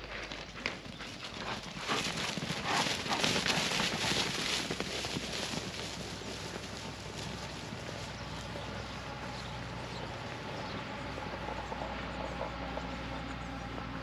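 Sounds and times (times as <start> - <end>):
hoofbeats on grass: 0.0 - 14.0.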